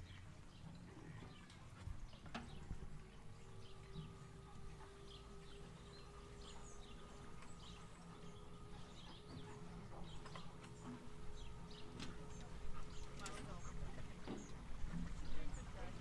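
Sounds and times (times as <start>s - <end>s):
electric boat motor humming: 0.0s - 16.0s
small birds chirping: 0.0s - 16.0s.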